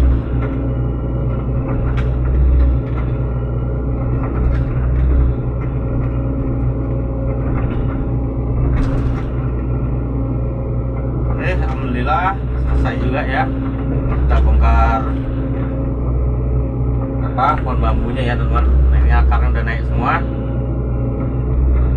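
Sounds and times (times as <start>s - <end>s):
excavator diesel engine rumbling: 0.0s - 21.9s.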